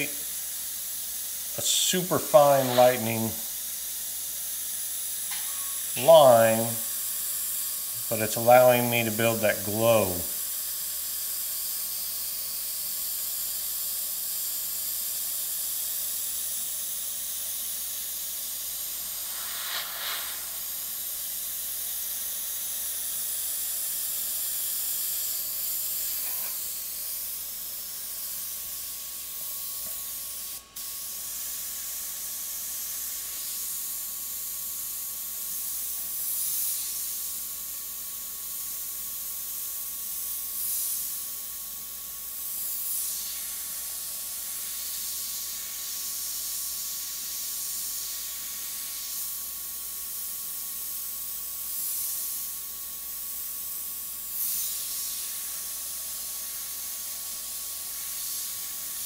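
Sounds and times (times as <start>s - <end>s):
airbrush hissing: 0.0s - 59.0s.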